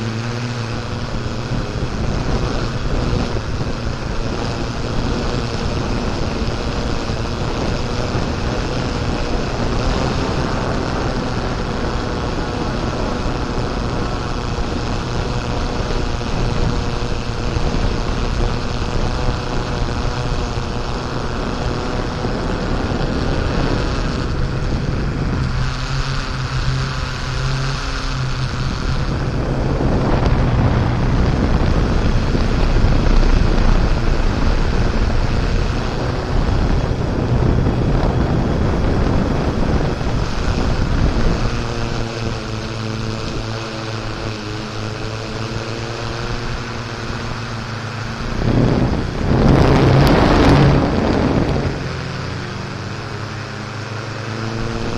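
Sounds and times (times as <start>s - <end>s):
broad rushing noise: 0.0s - 54.9s
vehicle engine droning: 0.0s - 54.9s.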